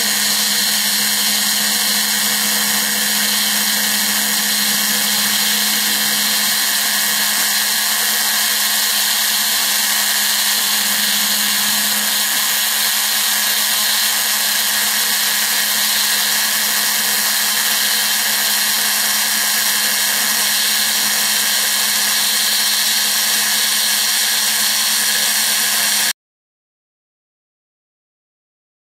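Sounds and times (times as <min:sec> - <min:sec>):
router spindle cutting foam: 0:00.0 - 0:26.1.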